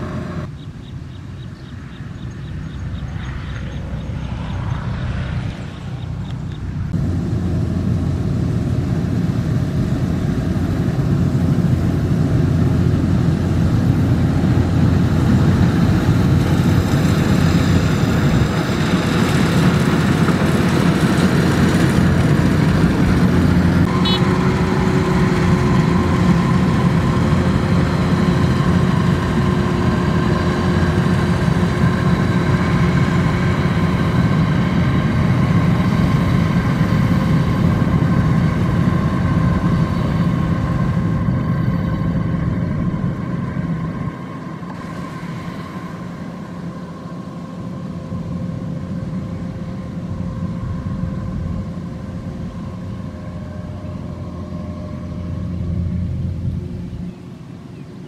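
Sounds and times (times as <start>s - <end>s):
combine harvester drone: 0.0s - 58.0s
steady whine: 0.0s - 58.0s.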